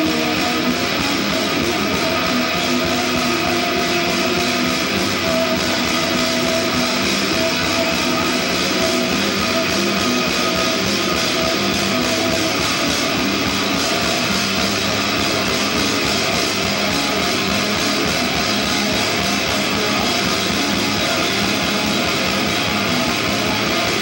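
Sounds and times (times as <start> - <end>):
distorted electric guitars: 0.0 - 24.0
drums: 0.0 - 24.0.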